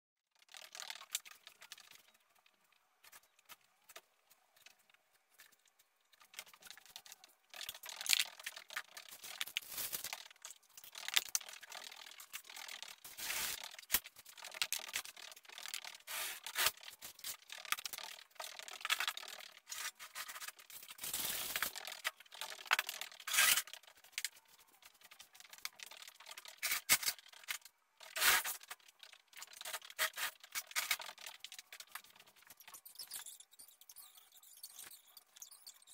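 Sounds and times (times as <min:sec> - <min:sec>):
objects rustling and scraping: 0:00.7 - 0:35.4.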